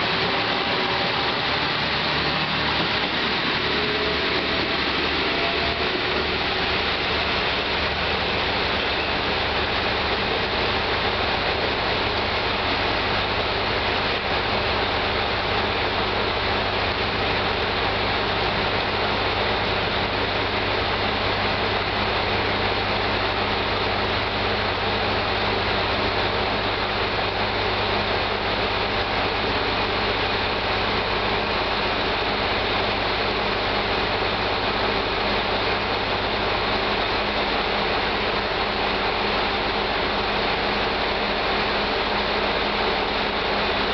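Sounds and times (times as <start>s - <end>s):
diesel railcar engine idling: 0.0s - 43.9s
steady rushing noise: 0.0s - 43.9s.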